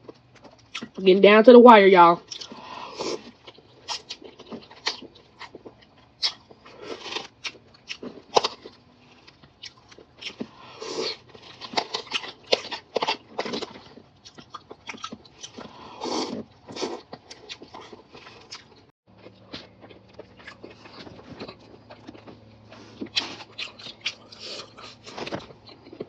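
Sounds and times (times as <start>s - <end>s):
crunching bites of fried food: 2.2s - 26.0s.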